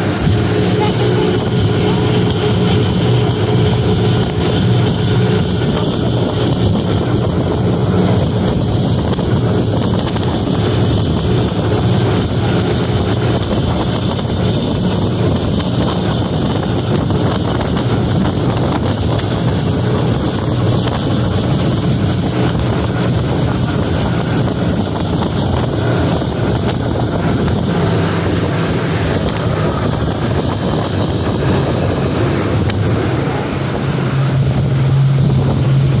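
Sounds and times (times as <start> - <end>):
motorboat engine droning: 0.0 - 36.0
spray rushing off hull: 0.0 - 36.0
wind buffeting microphone: 0.0 - 36.0.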